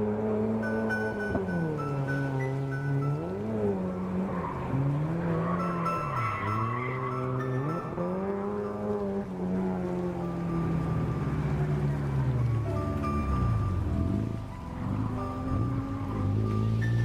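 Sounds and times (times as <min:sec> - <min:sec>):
car engine revving: 0:00.0 - 0:17.0
tires squealing: 0:00.0 - 0:17.0.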